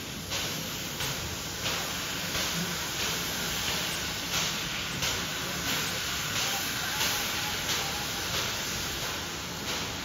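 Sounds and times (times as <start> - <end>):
steam blowing from drain cocks: 0.0 - 10.0
steam locomotive chuffing: 0.0 - 10.0.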